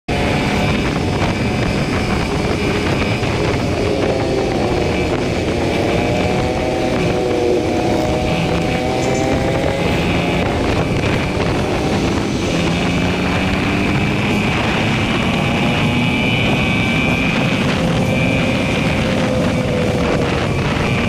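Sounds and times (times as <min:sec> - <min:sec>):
motorcycle engine running: 0:00.1 - 0:21.0
wind rushing over microphone: 0:00.1 - 0:21.0.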